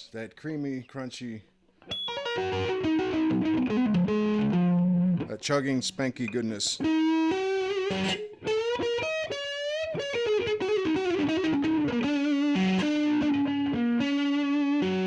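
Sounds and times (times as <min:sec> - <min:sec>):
overdriven electric guitar lead: 0:01.8 - 0:05.3, 0:06.3 - 0:15.0.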